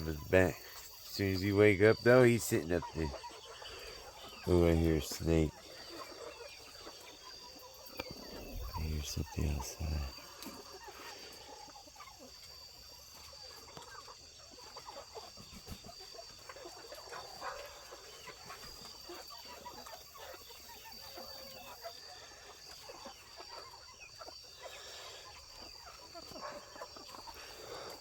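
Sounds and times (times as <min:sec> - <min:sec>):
chickens clucking softly: 0:00.0 - 0:28.0.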